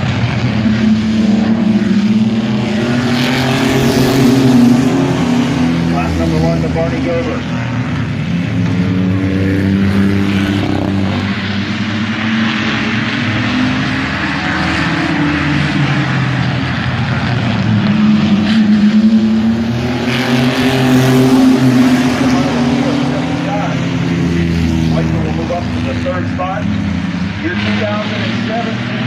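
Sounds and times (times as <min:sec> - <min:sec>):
truck engines racing at high revs: 0:00.0 - 0:29.0.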